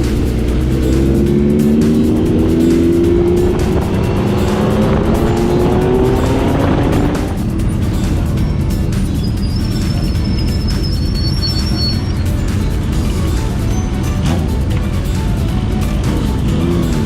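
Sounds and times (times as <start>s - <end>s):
motorcycle engine accelerating: 0.0s - 17.0s
music: 0.0s - 17.0s.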